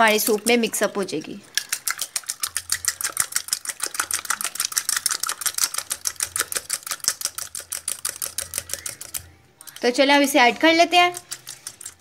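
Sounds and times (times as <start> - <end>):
whisk clicking against bowl: 0.0 - 0.9, 1.5 - 12.0.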